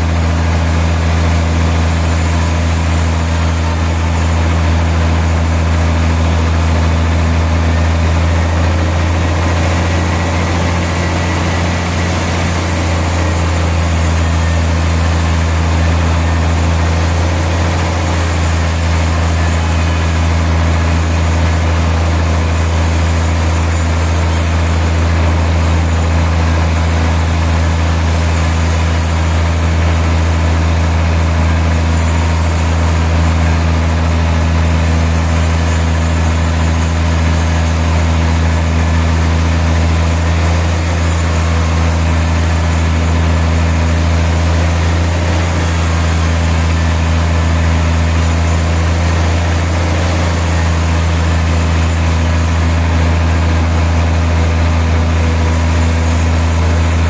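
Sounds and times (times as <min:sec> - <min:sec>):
sawmill machinery motor hum: 0:00.0 - 0:57.0.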